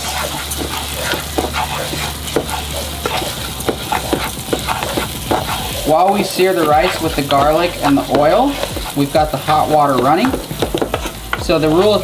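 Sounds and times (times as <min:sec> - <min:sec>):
rice sizzling in oil: 0:00.0 - 0:12.0
wooden spoon scraping a pan: 0:00.0 - 0:12.0.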